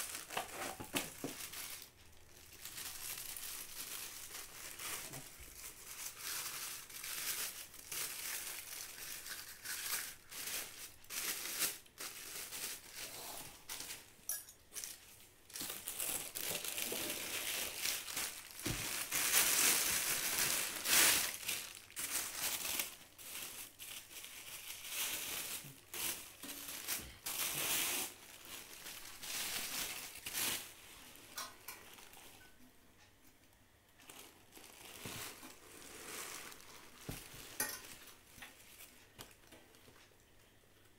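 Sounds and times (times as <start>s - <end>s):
plastic bags crinkling: 0.0s - 32.6s, 33.9s - 40.1s.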